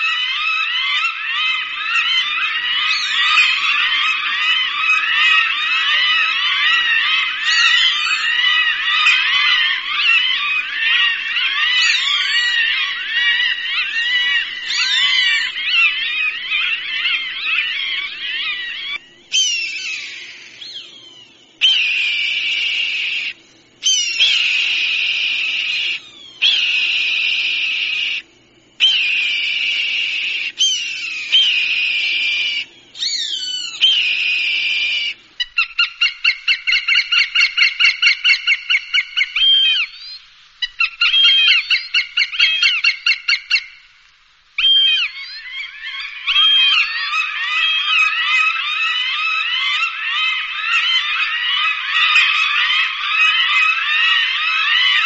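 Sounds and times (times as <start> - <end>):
recorded hawk calls: 0.0 - 55.0.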